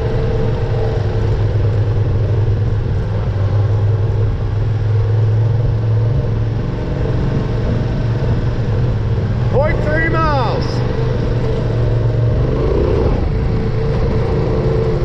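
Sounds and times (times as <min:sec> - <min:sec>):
motorcycle engine drone: 0:00.0 - 0:15.0
wind: 0:00.0 - 0:15.0.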